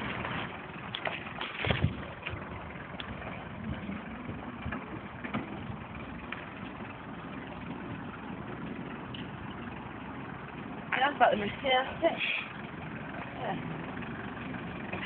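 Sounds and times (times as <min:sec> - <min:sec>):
van engine running: 0:00.0 - 0:15.0.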